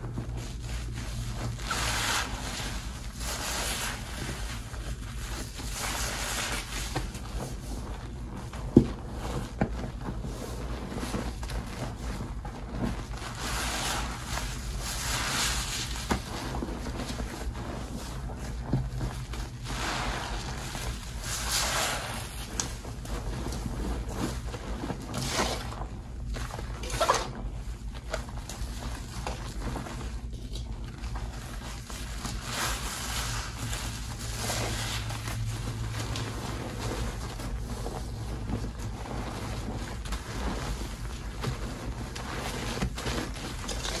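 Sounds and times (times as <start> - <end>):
wet sponges squelching in foam: 0.0 - 44.0.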